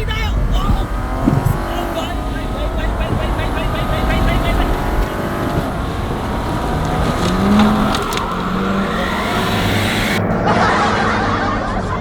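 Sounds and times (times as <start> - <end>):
diesel car engine revving: 0.0 - 12.0
tyres sliding on loose ground: 0.0 - 12.0.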